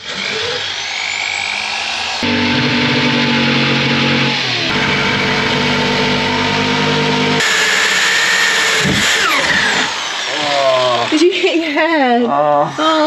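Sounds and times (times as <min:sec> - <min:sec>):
electric drill boring into wood: 0:00.0 - 0:13.0
jigsaw cutting wood: 0:00.0 - 0:13.0.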